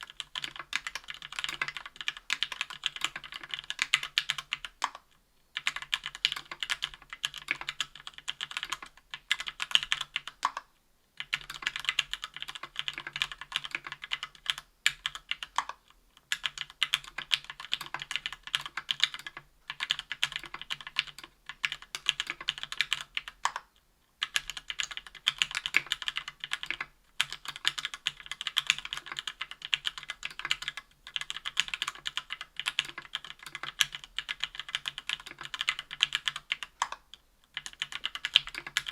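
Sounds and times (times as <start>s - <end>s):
keyboard typing clacks: 0.0s - 5.0s, 5.6s - 10.6s, 11.2s - 23.6s, 24.2s - 37.0s.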